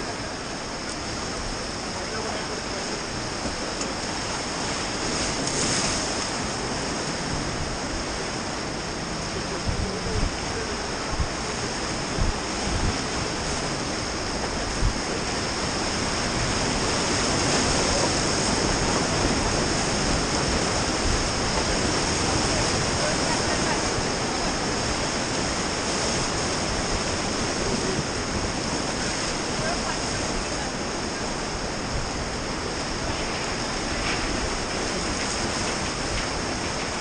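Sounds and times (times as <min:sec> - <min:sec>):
river rapids rushing: 0:00.0 - 0:37.0.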